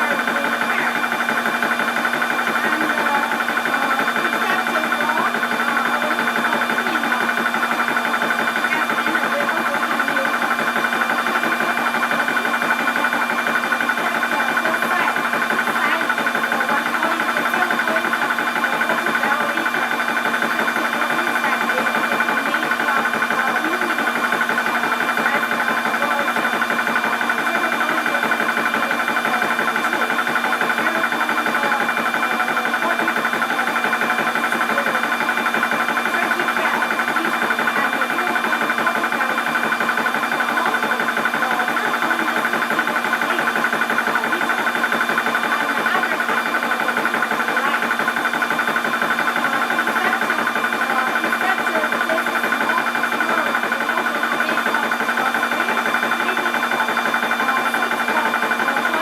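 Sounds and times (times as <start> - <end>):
air compressor running: 0.0 - 59.0.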